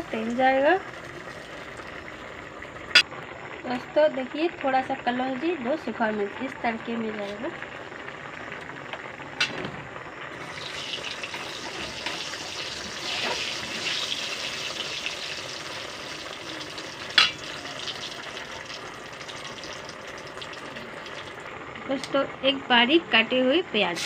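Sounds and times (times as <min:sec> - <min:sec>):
spices sizzling in hot oil: 0:00.0 - 0:24.0.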